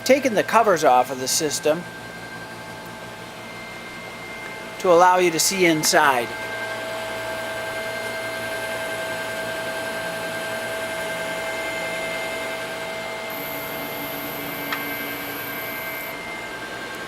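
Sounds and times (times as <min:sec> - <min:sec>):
high whine: 0:00.0 - 0:17.0
machine whirring hum: 0:00.0 - 0:17.0.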